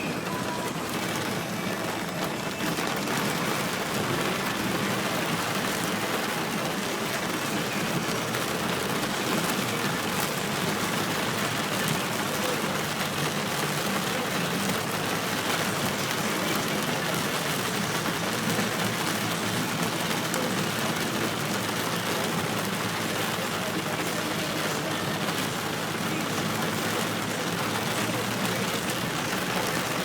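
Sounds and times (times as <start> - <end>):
heavy rain: 0.0 - 30.0
running floodwater: 0.0 - 30.0
vehicle engine hum: 0.0 - 30.0.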